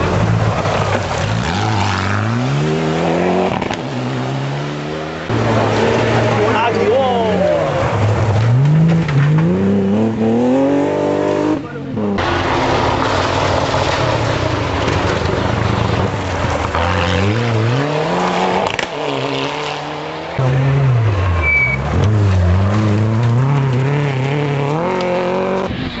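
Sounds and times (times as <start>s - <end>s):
rally car engines revving: 0.0s - 26.0s
tyres skidding on dirt: 0.0s - 26.0s.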